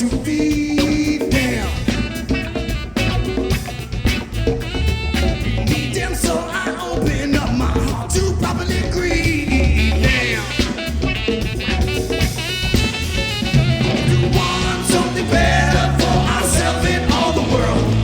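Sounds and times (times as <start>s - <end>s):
drum kit: 0.0s - 18.0s
live rap-rock band playing: 0.0s - 18.0s
steady bass: 1.2s - 18.0s.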